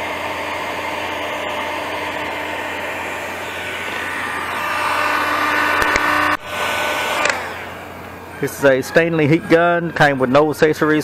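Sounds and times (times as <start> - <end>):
heat gun fan blowing: 0.0 - 11.0.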